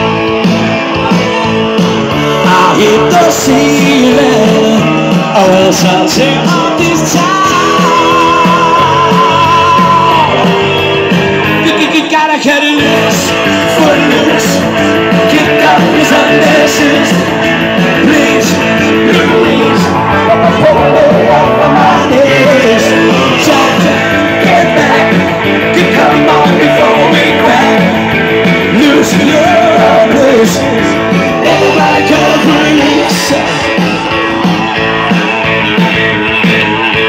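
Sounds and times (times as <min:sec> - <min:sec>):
guitar-led rock music: 0:00.0 - 0:37.0
man singing into microphone: 0:02.2 - 0:10.7, 0:11.6 - 0:34.2.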